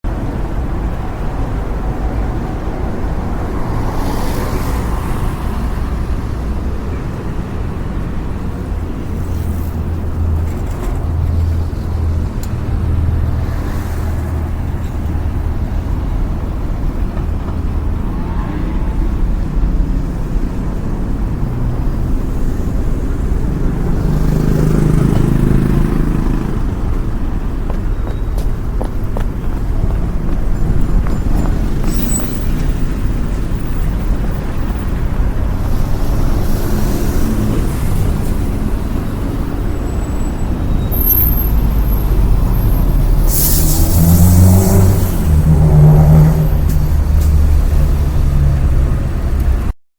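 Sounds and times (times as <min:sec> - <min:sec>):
low rumble of road traffic: 0:00.0 - 0:49.8
cars passing with tyre hiss: 0:00.1 - 0:49.7.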